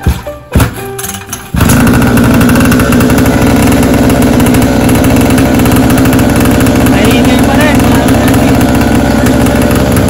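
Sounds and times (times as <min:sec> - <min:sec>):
small atv engine running loud: 0:01.5 - 0:10.0.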